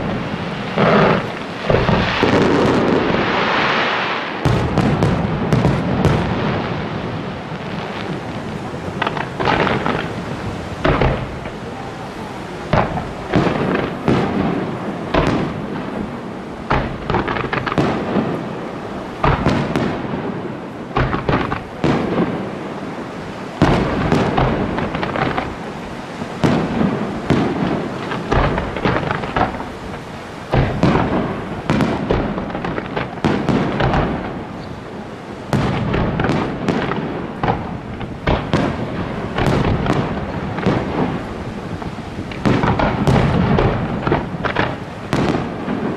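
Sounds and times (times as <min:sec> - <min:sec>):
firework shells booming: 0:00.0 - 0:45.9
fireworks crackling: 0:00.0 - 0:45.9.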